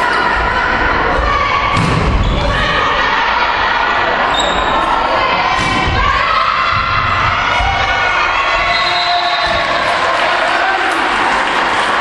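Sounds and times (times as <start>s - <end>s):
voices of players and spectators: 0.0s - 12.0s.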